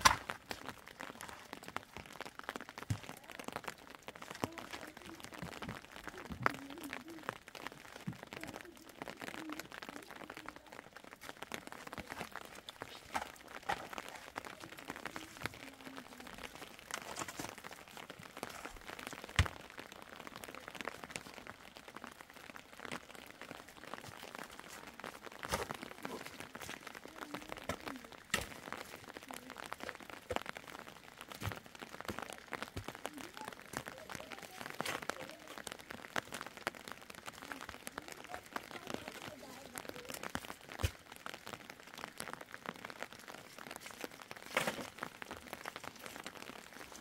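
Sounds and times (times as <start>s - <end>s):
rain pattering: 0.0s - 47.0s.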